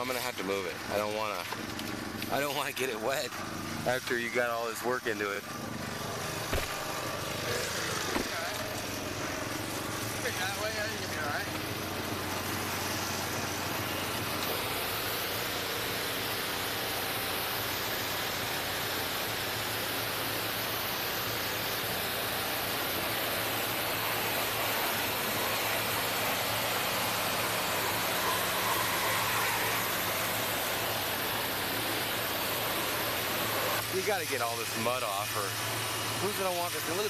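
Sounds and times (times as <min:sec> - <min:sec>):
engine low hum: 0:00.0 - 0:37.0
pressure washer spraying water: 0:00.0 - 0:37.0.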